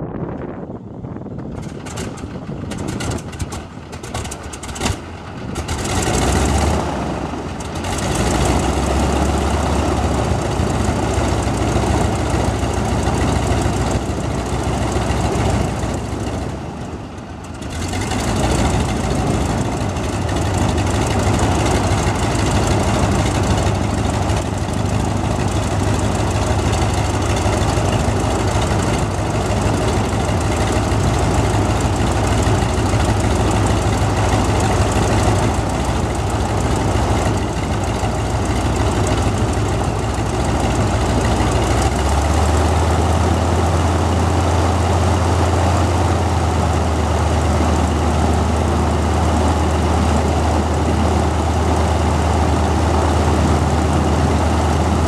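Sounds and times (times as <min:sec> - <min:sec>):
radial aircraft engine idling: 0:00.0 - 0:55.0.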